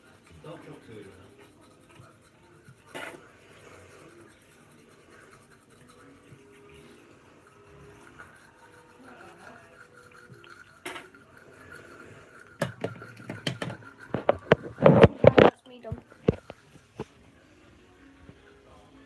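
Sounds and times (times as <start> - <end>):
toothbrush scrubbing teeth: 0.0 - 19.0.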